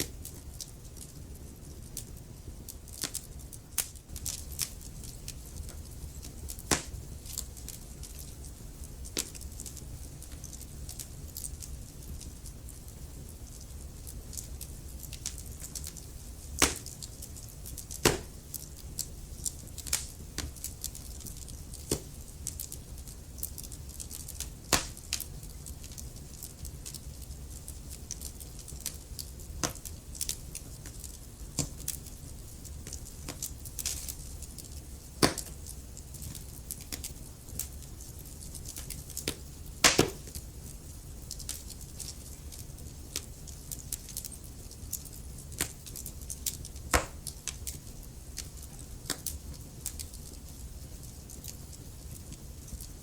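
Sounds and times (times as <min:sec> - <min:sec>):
loud fire snaps: 0:00.0 - 0:53.0
wood fire crackling: 0:00.0 - 0:53.0.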